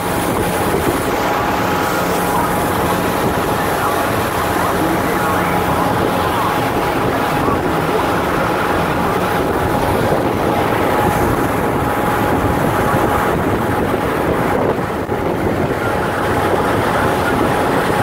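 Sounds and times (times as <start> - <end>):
boat engine running: 0.0 - 18.0
churning wake rushing: 0.0 - 18.0.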